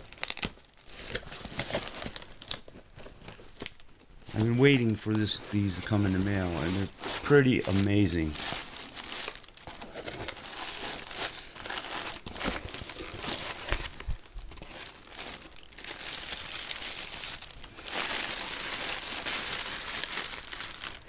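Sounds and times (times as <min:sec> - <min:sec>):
plastic packing crinkling: 0:00.0 - 0:21.0.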